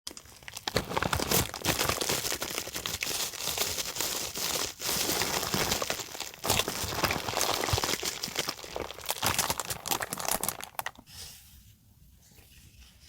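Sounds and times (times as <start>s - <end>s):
packaging crinkling and rustling: 0.1s - 11.1s.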